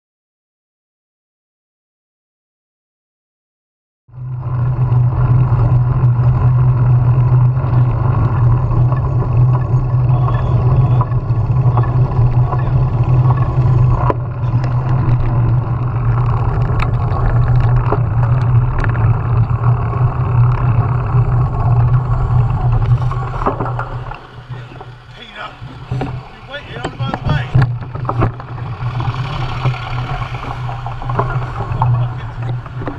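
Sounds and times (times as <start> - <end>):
road noise: 4.1 - 32.9
wind rumble on microphone: 4.2 - 32.9.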